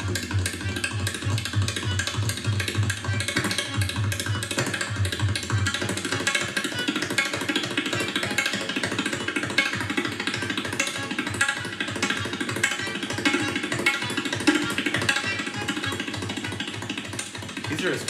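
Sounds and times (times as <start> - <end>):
sustained melodic accompaniment: 0.0 - 18.0
tabla played fast: 0.0 - 18.0.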